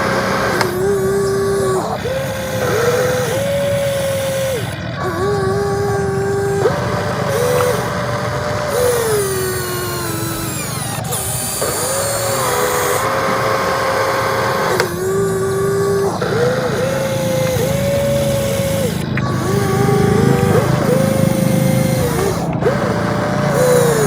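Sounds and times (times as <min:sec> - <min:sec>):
electric motor whining under load: 0:00.0 - 0:24.0.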